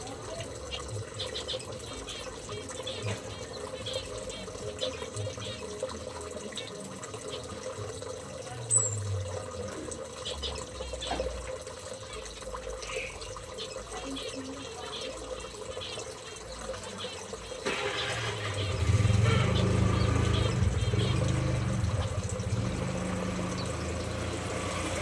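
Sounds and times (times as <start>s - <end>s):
small birds chirping: 0.0s - 7.9s, 8.5s - 25.0s.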